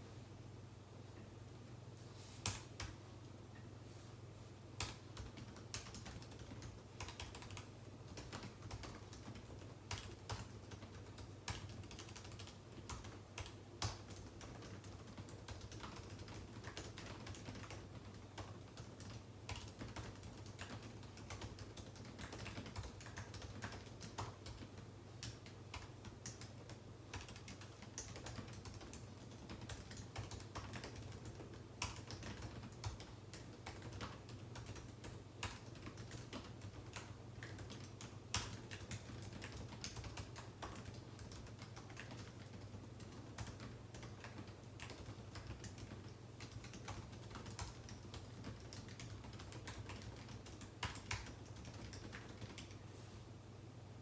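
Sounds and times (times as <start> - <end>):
typing on a computer keyboard: 4.8 - 52.8.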